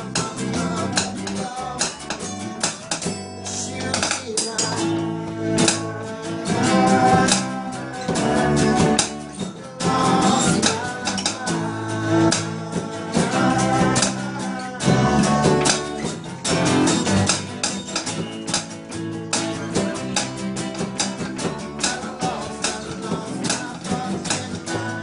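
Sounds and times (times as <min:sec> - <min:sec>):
acoustic guitar strumming: 0:00.0 - 0:25.0
acoustic rock band playing live: 0:00.0 - 0:25.0.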